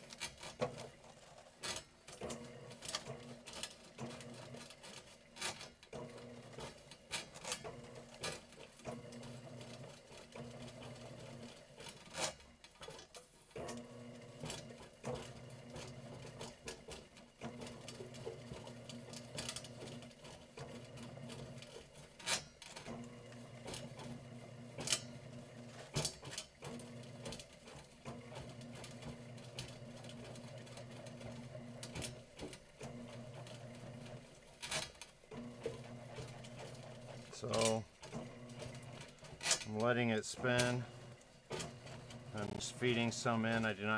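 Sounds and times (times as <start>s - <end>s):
drain auger motor hum: 0.0s - 12.9s, 13.5s - 43.9s.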